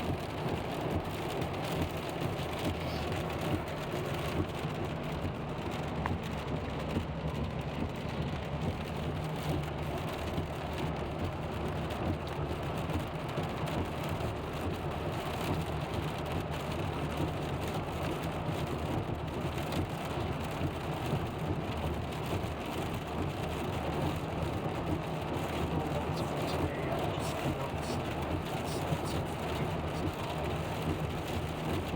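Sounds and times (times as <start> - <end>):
car road noise: 0.0 - 31.9
rain ticking on a car: 0.0 - 31.9.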